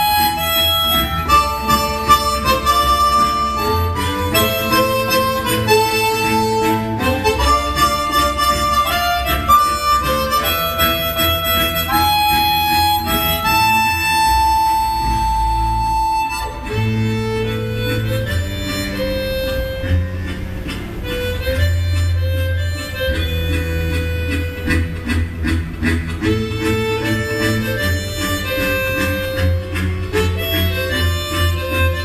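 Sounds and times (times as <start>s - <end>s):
harmonica ensemble playing: 0.0s - 32.0s.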